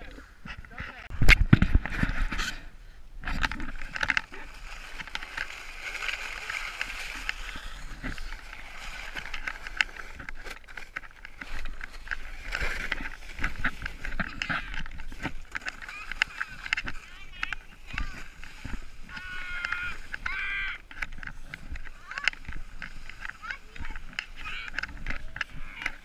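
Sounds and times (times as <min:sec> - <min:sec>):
snow tube dragged over snow: 0:03.4 - 0:20.2, 0:21.3 - 0:26.0
footsteps on slush: 0:03.8 - 0:26.0.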